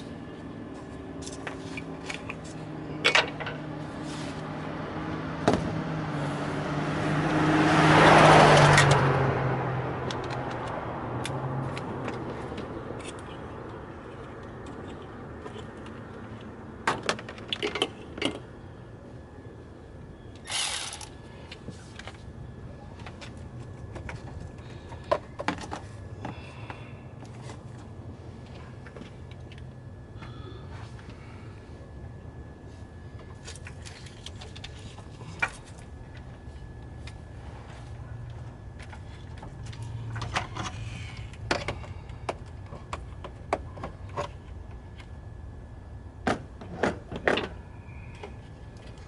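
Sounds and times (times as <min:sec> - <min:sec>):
vehicle engine hum passing: 0:00.0 - 0:43.0.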